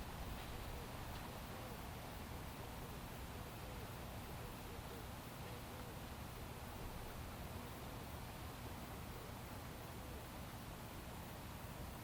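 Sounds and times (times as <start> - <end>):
palm fronds rustling in breeze: 0.0 - 12.0.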